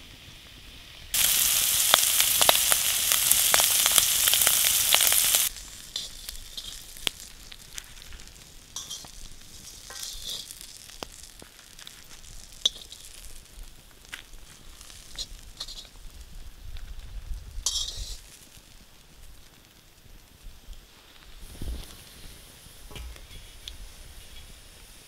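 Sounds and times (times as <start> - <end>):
shrimp sizzling in a wok: 0.0 - 25.0.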